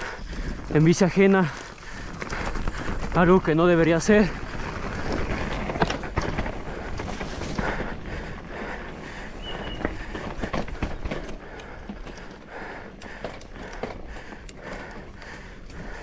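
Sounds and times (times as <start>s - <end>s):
person breathing hard: 0.0s - 0.7s, 1.4s - 3.2s, 4.3s - 16.0s
bike clicks and knocks: 1.6s - 16.0s.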